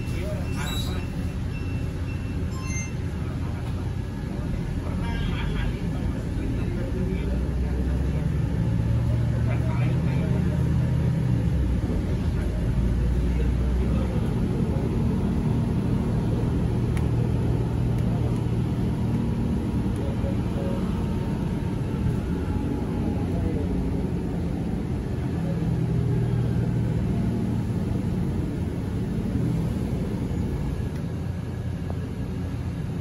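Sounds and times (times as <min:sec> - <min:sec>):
bus engine running: 0:00.0 - 0:33.0
road rumble: 0:00.0 - 0:33.0.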